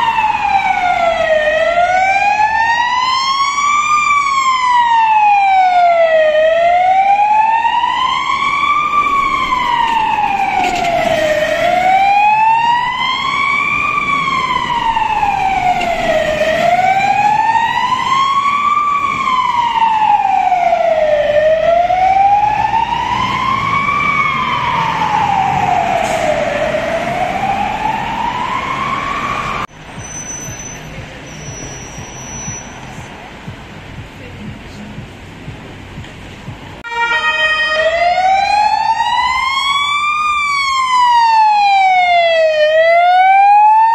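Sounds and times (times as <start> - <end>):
police siren wailing: 0.0 - 29.7, 36.8 - 43.9
traffic rumble: 0.0 - 43.9.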